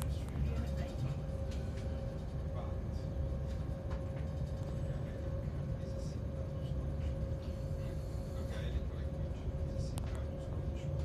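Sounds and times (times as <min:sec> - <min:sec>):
faint constant hum: 0:00.0 - 0:11.0
train rumble inside carriage: 0:00.0 - 0:11.0.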